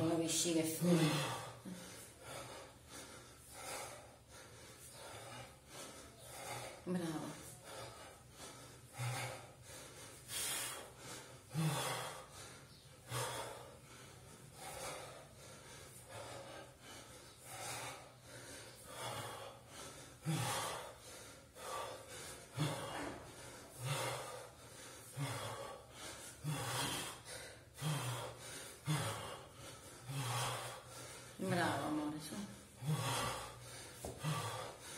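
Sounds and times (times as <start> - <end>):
man breathing hard: 0.0 - 34.9.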